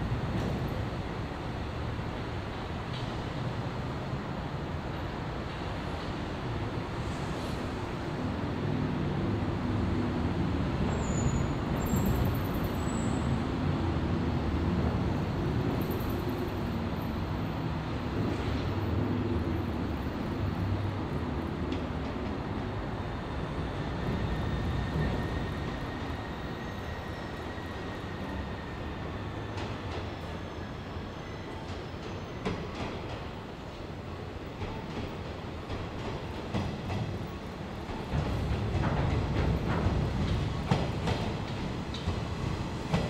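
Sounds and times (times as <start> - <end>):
train wheels rumbling on track: 0.0 - 43.0.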